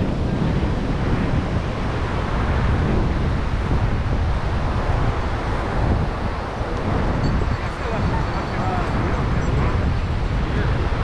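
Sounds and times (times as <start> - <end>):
surf washing: 0.0 - 11.0
wind on microphone: 0.0 - 11.0.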